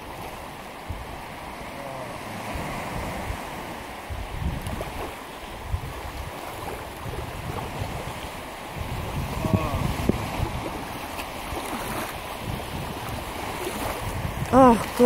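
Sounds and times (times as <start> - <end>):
small waves washing on sand: 0.0 - 15.0
wind rumbling on microphone: 0.0 - 15.0.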